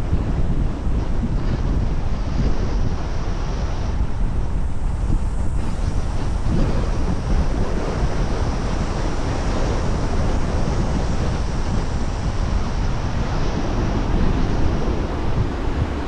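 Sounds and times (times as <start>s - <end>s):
car wind and road noise: 0.0s - 16.0s.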